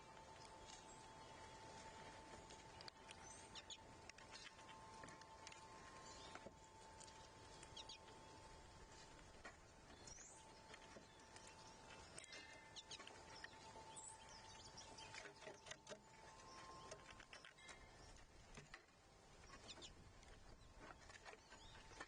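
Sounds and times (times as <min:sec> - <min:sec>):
faint steady high hum: 0:00.0 - 0:22.0.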